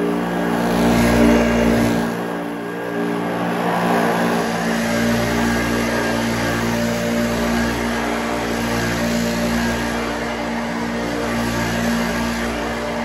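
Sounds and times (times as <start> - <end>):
vacuum cleaner running on carpet: 0.0 - 13.0.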